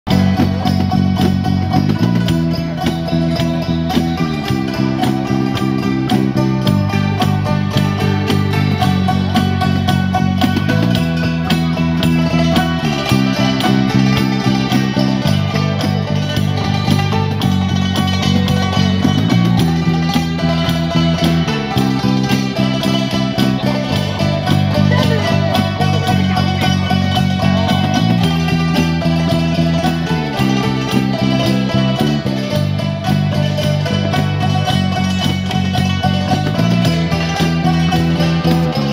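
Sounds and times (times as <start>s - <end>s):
bass guitar line: 0.0s - 38.9s
hammered dulcimers playing melody: 0.1s - 38.9s.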